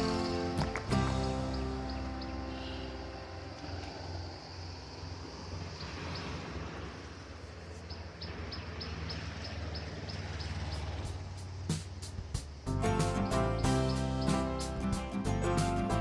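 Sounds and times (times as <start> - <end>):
bird chirping: 0.0 - 6.4, 7.2 - 15.7.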